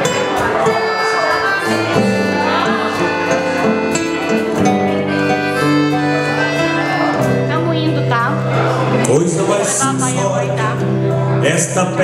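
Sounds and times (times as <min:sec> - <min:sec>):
accordion holding notes: 0:00.0 - 0:12.0
acoustic guitar strumming: 0:00.0 - 0:12.0
cajon beat: 0:00.0 - 0:12.0.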